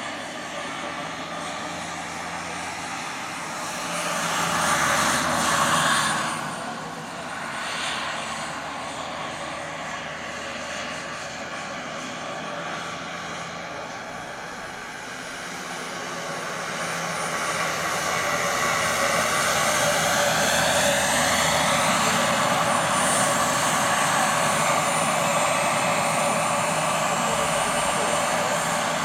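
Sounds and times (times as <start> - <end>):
model helicopter flying: 0.0 - 29.0.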